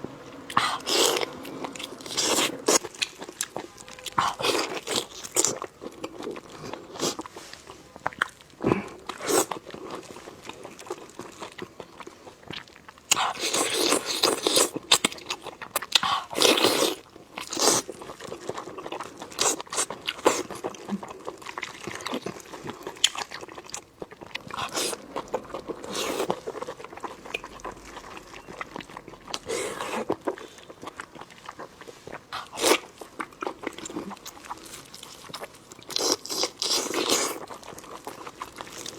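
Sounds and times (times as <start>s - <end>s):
wet crunchy chewing: 0.3s - 38.9s.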